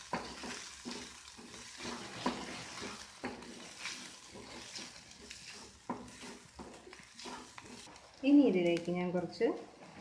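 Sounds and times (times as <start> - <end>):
utensil stirring and scraping pan: 0.0 - 8.2
onions sizzling in oil: 0.0 - 10.0.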